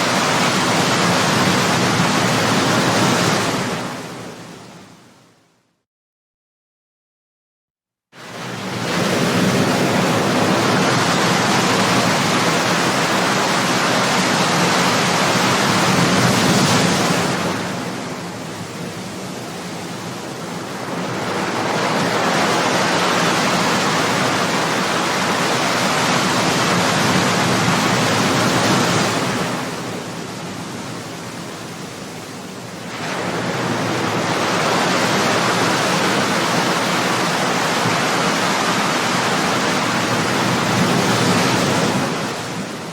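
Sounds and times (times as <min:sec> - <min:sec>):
waves breaking on shore: 0:00.0 - 0:05.2, 0:08.2 - 0:42.9.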